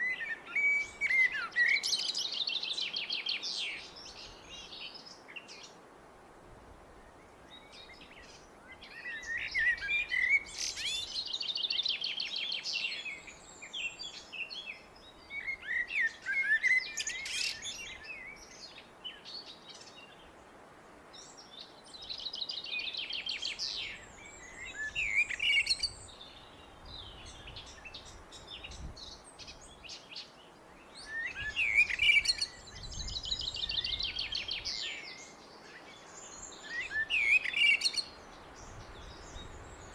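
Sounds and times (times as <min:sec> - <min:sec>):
blackbird singing: 0:00.0 - 0:05.7, 0:07.5 - 0:20.2, 0:21.4 - 0:39.9.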